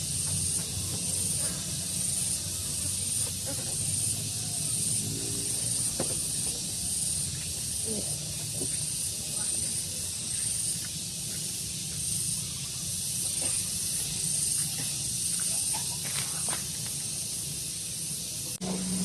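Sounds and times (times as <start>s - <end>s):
steady high hiss: 0.0s - 19.0s
steady low hum: 0.0s - 19.0s.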